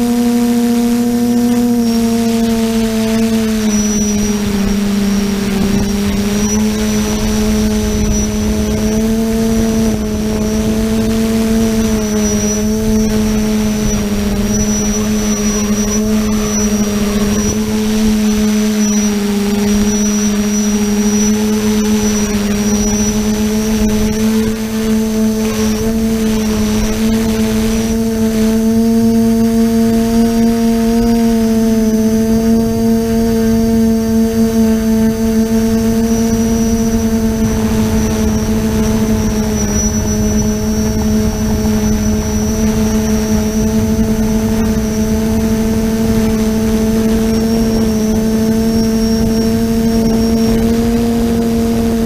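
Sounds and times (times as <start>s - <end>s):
drone motors whining: 0.0s - 52.0s
wind rumbling on microphone: 0.0s - 52.0s.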